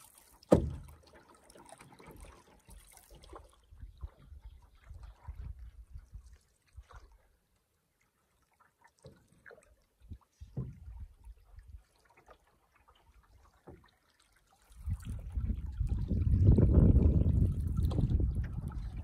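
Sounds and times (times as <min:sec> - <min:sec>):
paddle splashes and drips: 0:00.0 - 0:19.0.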